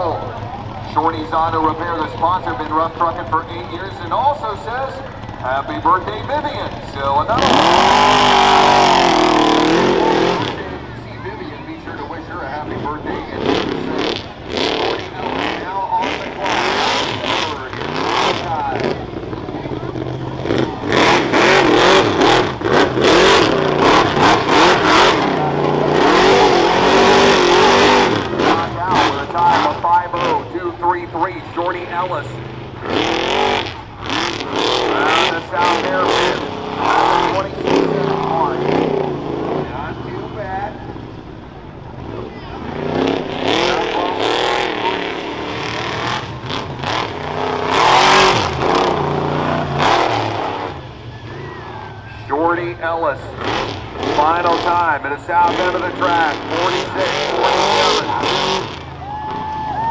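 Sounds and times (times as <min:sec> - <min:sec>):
truck engine revving hard: 0:00.0 - 0:59.9.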